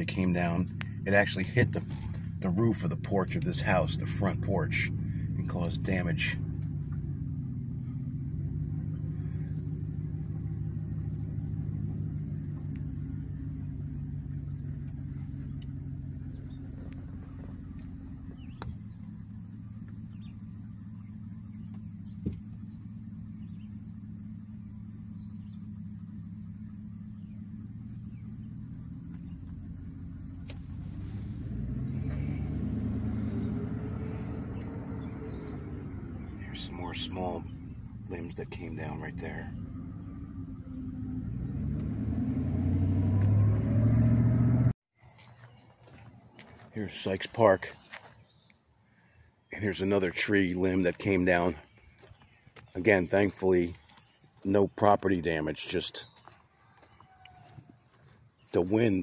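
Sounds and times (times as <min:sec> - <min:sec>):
car engine hum from cabin: 0:00.0 - 0:59.0.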